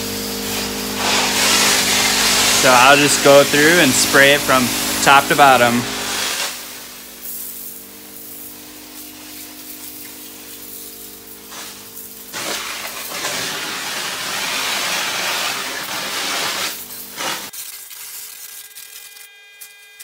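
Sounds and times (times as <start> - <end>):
water spraying from hose nozzle: 0.0 - 19.1
electric pump humming: 0.0 - 20.0
water spattering on shelving: 0.3 - 18.2.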